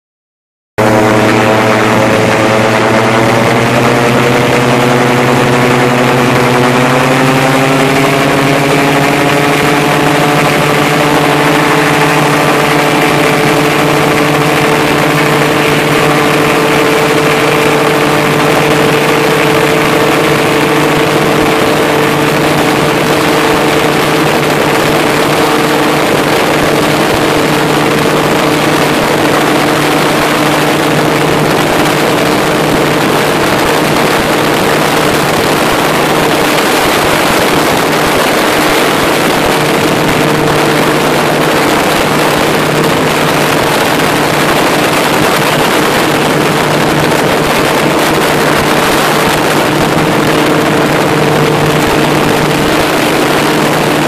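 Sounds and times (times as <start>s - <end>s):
engine and propeller running: 0.8s - 54.0s.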